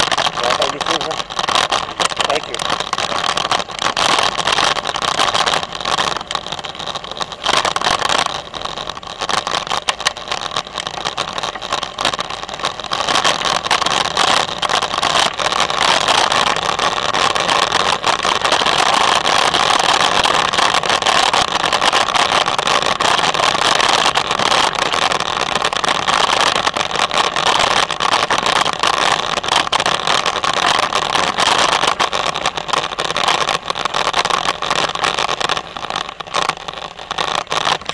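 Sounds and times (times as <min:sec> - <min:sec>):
bicycle tyres rolling on gravel: 0:00.0 - 0:37.9.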